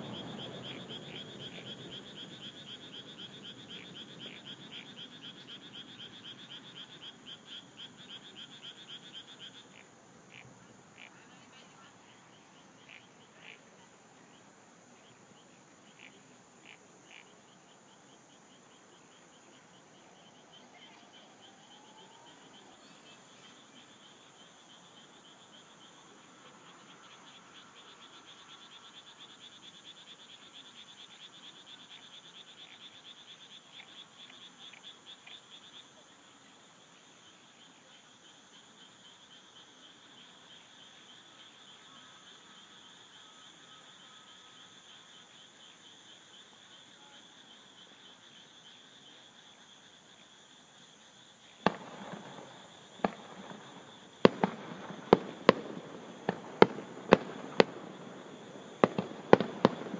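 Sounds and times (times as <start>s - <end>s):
frogs and insects chorus: 0.0s - 59.9s.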